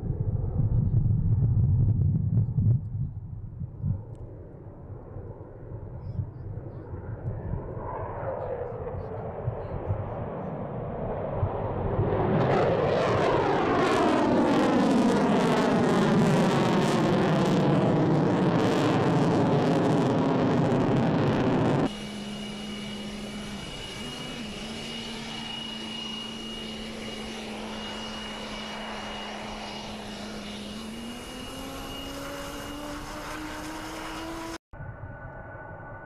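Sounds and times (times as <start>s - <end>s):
jet turbine whine: 3.9s - 36.0s
jet roar passing: 6.5s - 36.0s.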